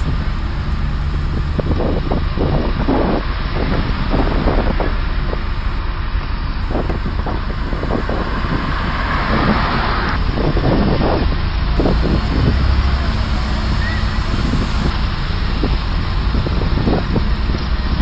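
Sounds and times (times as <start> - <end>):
loud rushing noise: 0.0 - 18.0
wind buffeting microphone: 0.0 - 18.0.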